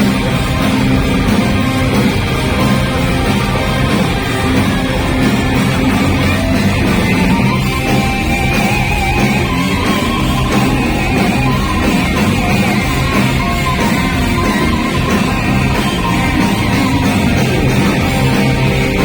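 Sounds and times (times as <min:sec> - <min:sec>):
electric guitar: 0:00.0 - 0:19.0
live rock band playing: 0:00.0 - 0:19.0.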